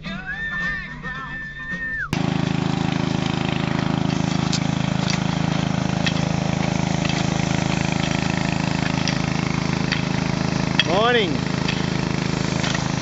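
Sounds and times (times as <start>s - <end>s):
small engine running steadily: 2.0s - 13.0s
campfire crackling: 2.2s - 13.0s.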